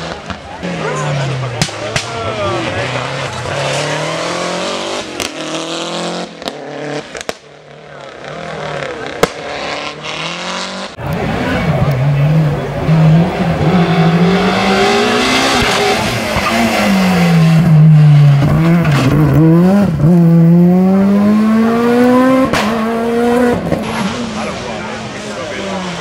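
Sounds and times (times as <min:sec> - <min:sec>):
rally car engines at full throttle: 0:00.0 - 0:26.0.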